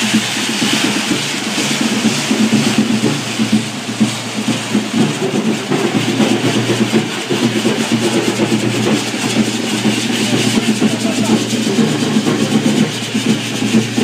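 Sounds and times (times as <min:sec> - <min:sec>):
fireworks fizzing and hissing: 0:00.0 - 0:14.0.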